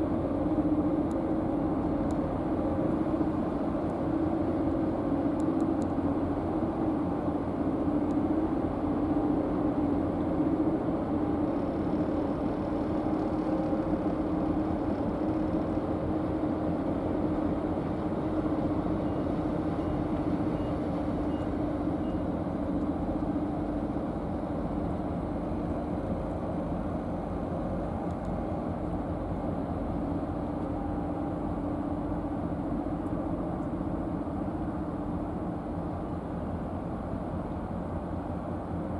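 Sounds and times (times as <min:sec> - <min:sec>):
ferry engines droning: 0:00.0 - 0:38.9.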